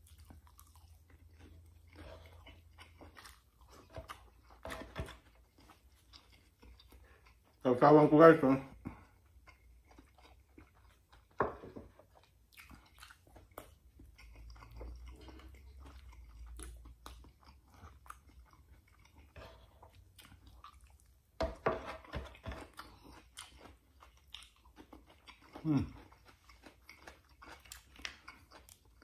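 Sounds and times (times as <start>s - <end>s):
chewing and crunching food: 0.0s - 29.0s.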